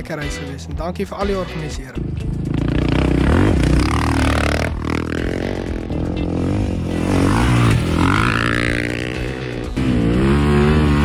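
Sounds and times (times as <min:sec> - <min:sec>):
dirt bike engines revving: 0:02.0 - 0:11.0.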